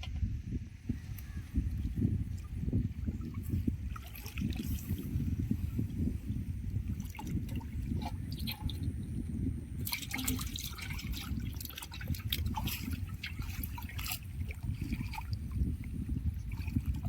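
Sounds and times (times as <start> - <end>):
steady low rumble: 0.0 - 17.0
water splashing and dripping: 1.1 - 17.0.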